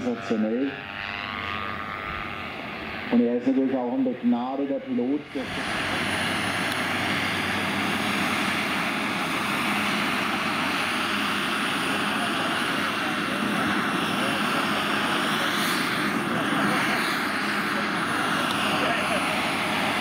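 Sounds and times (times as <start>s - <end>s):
model helicopter turbine and rotors: 0.0s - 20.0s.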